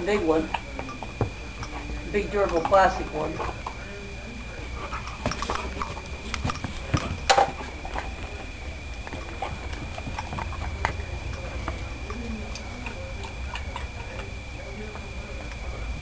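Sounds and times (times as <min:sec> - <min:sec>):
puppy paws clicking on floor: 0:00.2 - 0:03.8, 0:04.9 - 0:08.4, 0:09.0 - 0:15.7.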